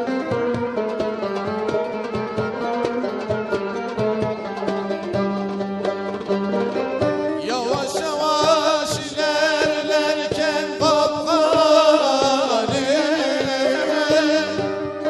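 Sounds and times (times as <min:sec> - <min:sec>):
drum strokes: 0:00.0 - 0:15.0.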